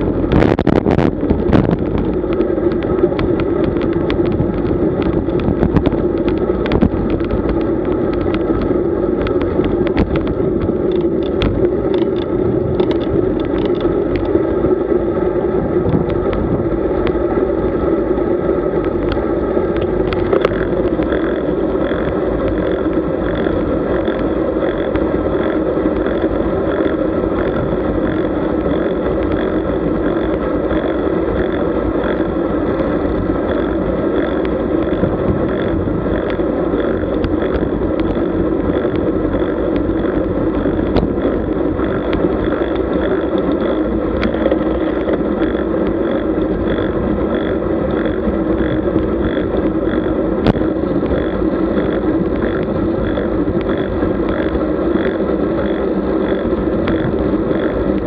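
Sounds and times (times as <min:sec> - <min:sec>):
tyres rumbling on road: 0:00.0 - 0:58.0
faint ticks: 0:01.5 - 0:14.4, 0:18.8 - 0:58.0.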